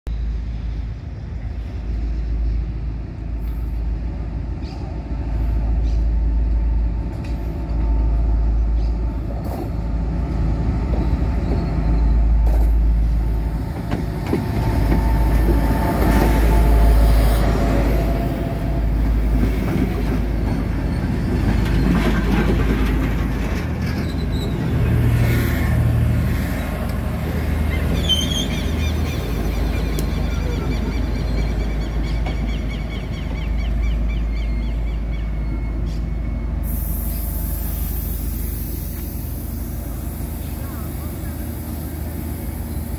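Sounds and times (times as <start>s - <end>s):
diesel locomotive engines running: 0.1s - 42.9s
train wheels rolling on rails: 0.4s - 42.9s.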